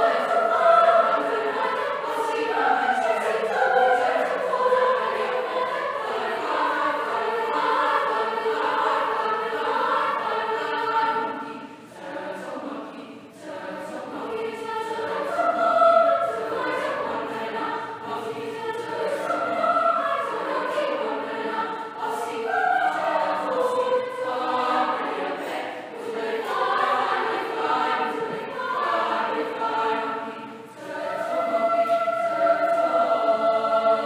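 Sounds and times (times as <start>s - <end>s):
children's choir singing in harmony: 0.0s - 34.0s.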